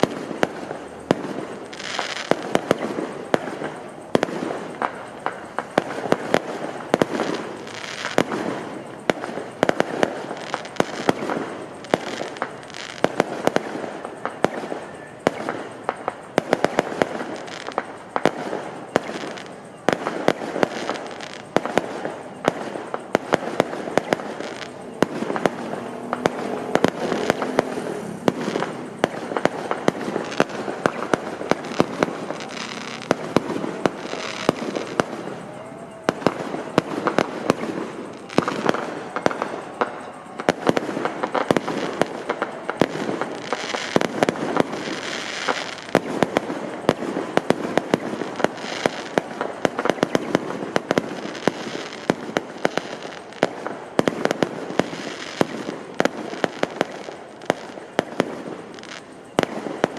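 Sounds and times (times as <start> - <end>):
fireworks and firecrackers banging: 0.0 - 59.9.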